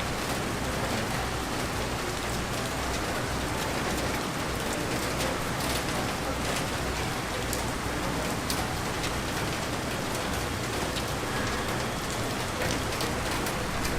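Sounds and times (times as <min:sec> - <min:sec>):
rain splashing on surfaces: 0:00.0 - 0:13.9.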